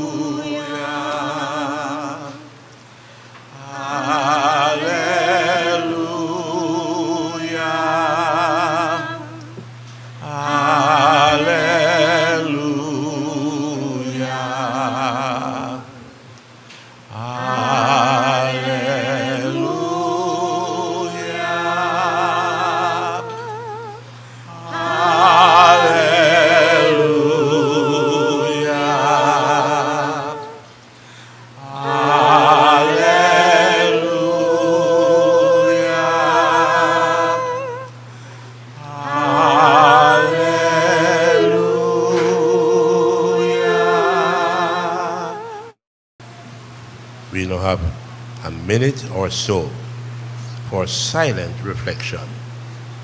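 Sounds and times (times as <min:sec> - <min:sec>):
people singing a cappella: 0:00.0 - 0:16.4, 0:17.0 - 0:45.8.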